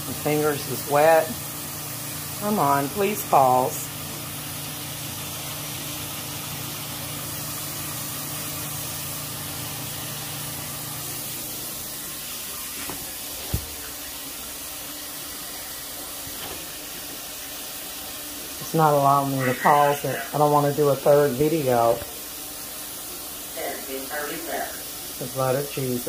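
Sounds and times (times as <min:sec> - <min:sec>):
chicken sizzling in hot grease: 0:00.0 - 0:26.0.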